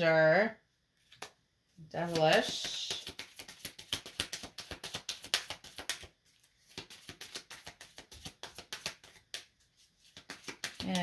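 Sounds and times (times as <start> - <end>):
cards being shuffled: 1.0 - 1.4, 2.0 - 11.0.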